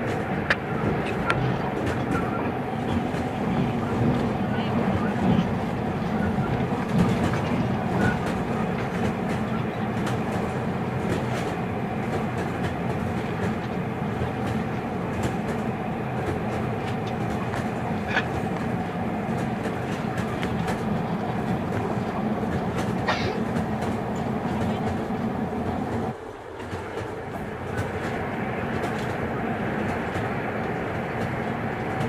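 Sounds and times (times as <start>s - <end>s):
train rumble inside carriage: 0.0s - 32.0s.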